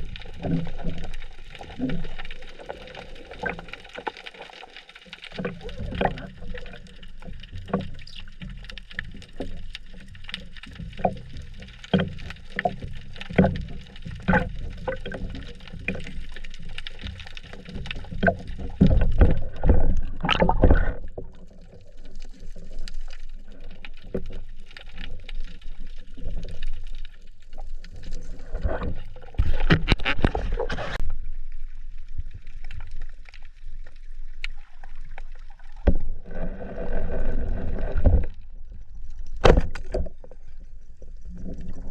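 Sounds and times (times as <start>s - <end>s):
water sloshing and gurgling: 0.0s - 41.9s.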